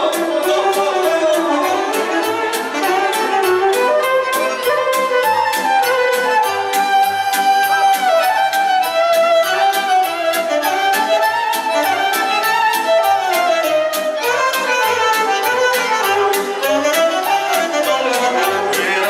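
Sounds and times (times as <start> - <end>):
quick percussion beat: 0.0 - 19.0
saxophone melody: 0.0 - 19.0
violin melody: 0.0 - 19.0.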